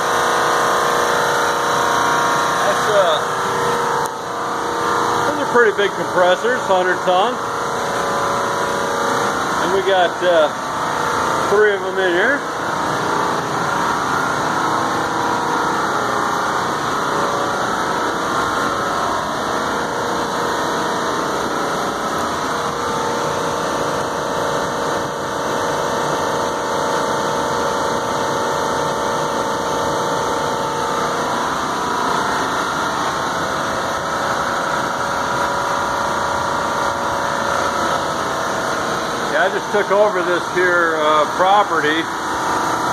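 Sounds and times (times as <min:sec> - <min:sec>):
air conditioning compressors humming: 0:00.0 - 0:42.9.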